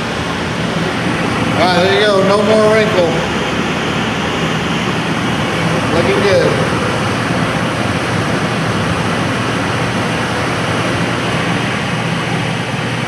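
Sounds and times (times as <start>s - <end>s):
oven blower rushing air: 0.0s - 13.0s.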